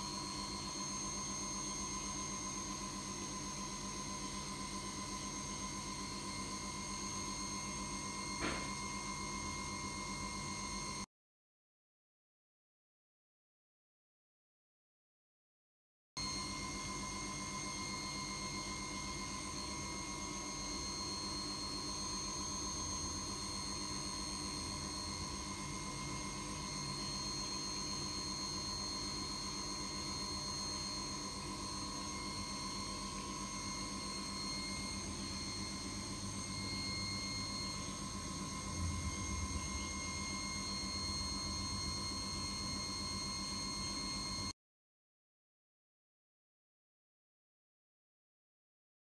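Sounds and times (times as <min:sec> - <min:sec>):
steady whir with high whine: 0:00.0 - 0:11.1, 0:16.2 - 0:44.6.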